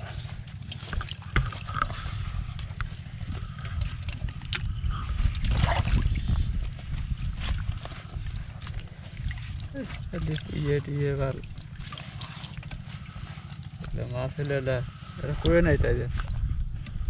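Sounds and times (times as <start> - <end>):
wet net and tarp handled: 0.0 - 16.8
low rumble: 0.0 - 17.0
water trickling and splashing: 0.0 - 17.0.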